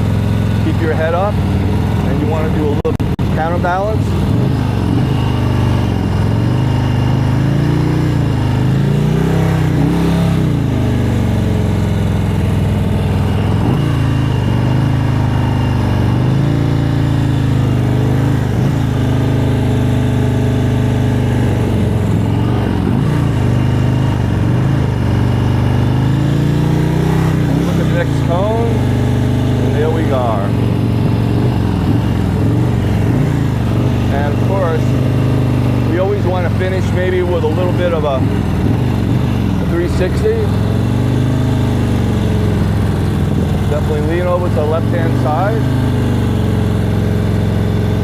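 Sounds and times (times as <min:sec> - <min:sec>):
motorcycle engine at low revs: 0:00.0 - 0:48.0.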